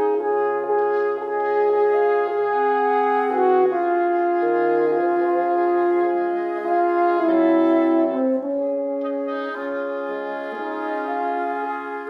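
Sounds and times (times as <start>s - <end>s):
bassoon: 0.0s - 12.0s
french horn: 0.0s - 12.0s
woodwind quintet playing chords: 0.0s - 12.0s.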